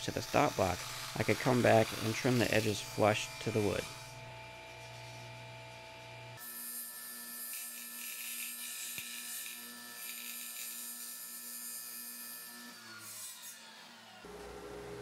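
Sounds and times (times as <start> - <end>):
table saw cutting plastic: 0.0 - 14.3.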